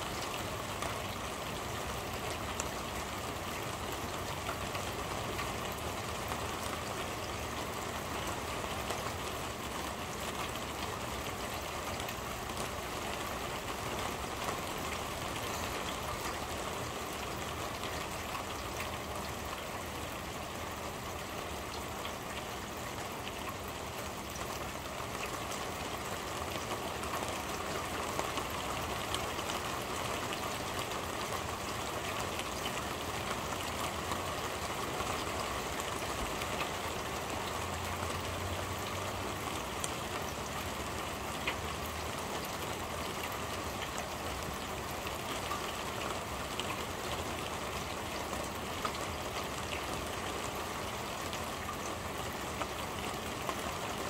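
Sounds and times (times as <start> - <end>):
rain drumming on metal roof: 0.0 - 54.0.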